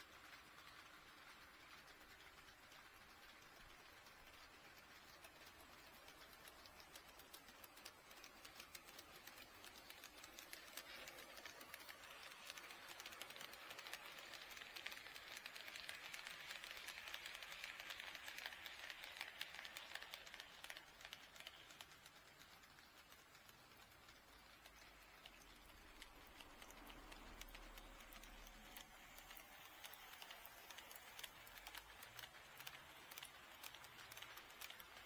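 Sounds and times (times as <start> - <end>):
model train wheel clicks: 0.0 - 35.0.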